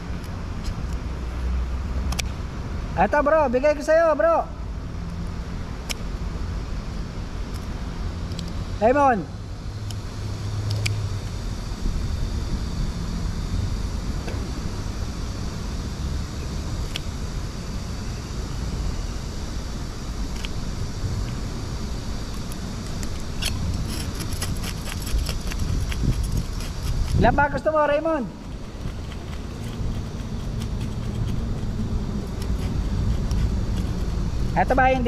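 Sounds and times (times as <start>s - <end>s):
low rumble of road traffic: 0.0s - 35.0s.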